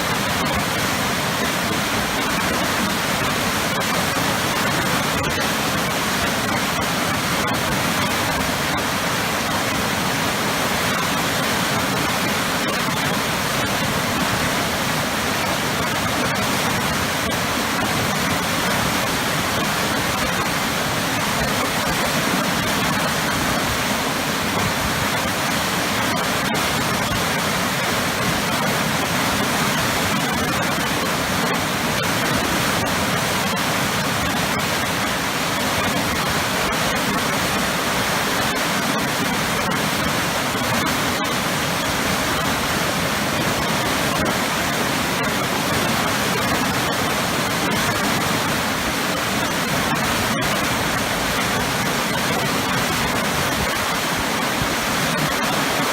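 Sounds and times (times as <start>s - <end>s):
powerful waterfall rushing: 0.0s - 55.9s.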